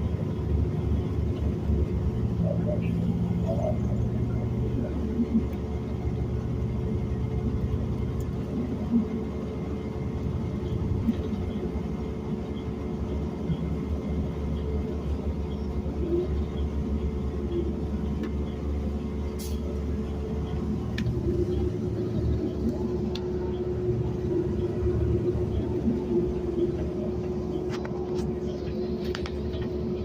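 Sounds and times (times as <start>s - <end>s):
bus engine drone: 0.0s - 30.0s
constant hum: 0.0s - 30.0s
low road rumble: 0.0s - 30.0s.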